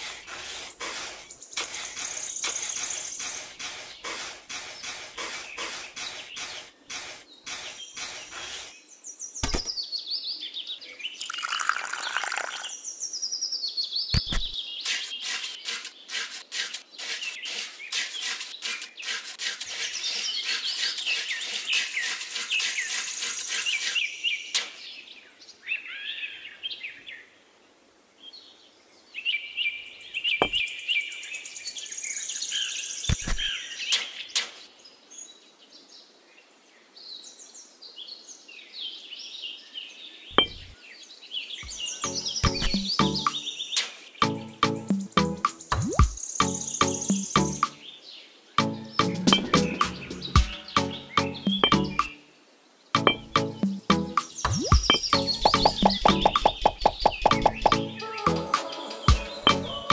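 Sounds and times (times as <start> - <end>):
small birds chirping: 0.0 - 27.3, 28.2 - 59.9.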